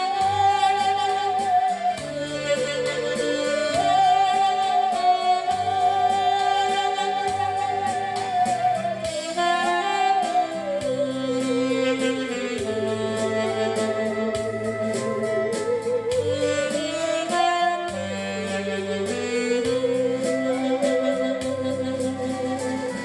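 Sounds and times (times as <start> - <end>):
backing track with steady beat: 0.0 - 23.0
bowed musical saw melody: 0.0 - 23.0.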